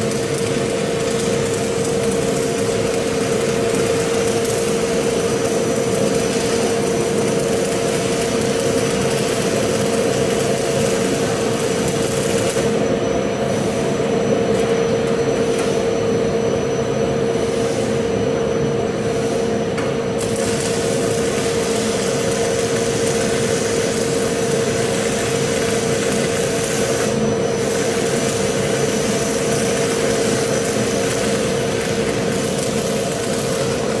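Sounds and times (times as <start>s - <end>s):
arc welding crackle and hiss: 0.0s - 15.9s, 18.9s - 34.0s.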